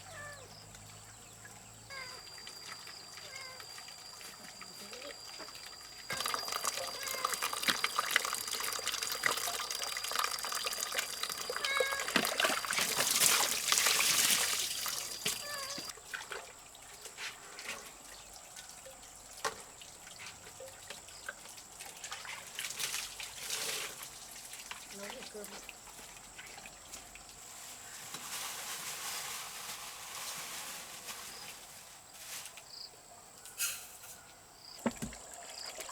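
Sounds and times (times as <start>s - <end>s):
water trickling and splashing: 0.1s - 32.4s, 34.7s - 35.9s.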